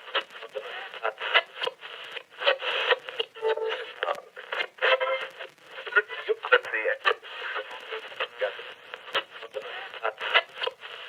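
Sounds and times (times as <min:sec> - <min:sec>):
radio static: 0:00.0 - 0:11.0
radio station voices and tones: 0:00.0 - 0:11.0.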